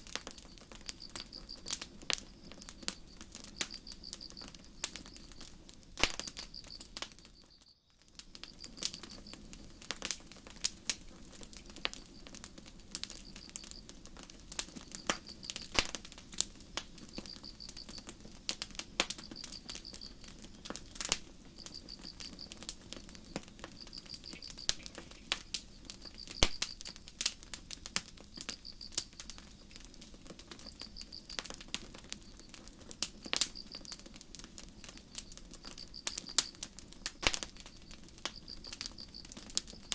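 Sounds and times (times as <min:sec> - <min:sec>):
campfire crackling and popping: 0:00.0 - 0:39.9
crickets chirping in trills: 0:00.0 - 0:39.9.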